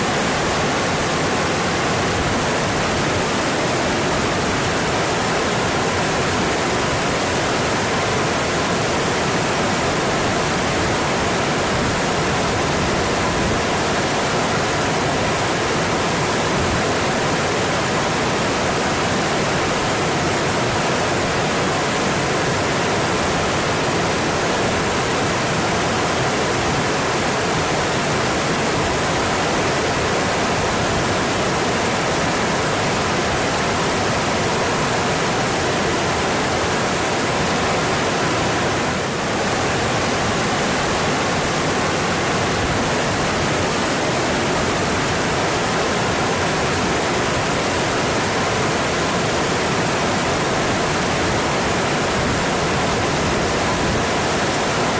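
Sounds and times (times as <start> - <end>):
mountain stream flowing: 0.0 - 54.9.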